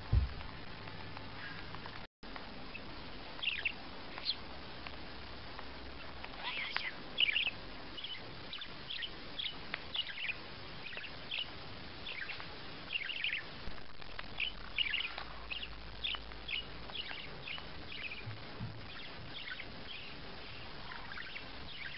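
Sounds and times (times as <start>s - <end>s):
parakeet chirping: 2.7s - 5.0s, 5.8s - 21.9s.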